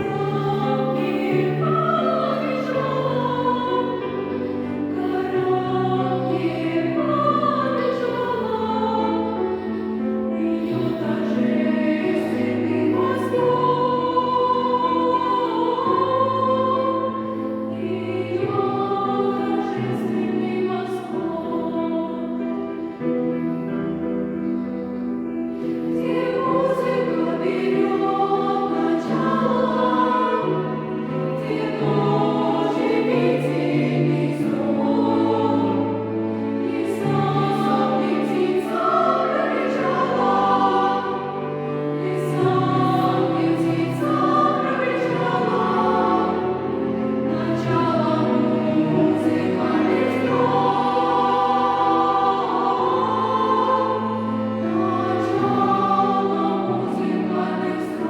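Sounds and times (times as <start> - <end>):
cello: 0.0 - 58.0
children's choir singing: 0.0 - 58.0
piano: 0.0 - 58.0.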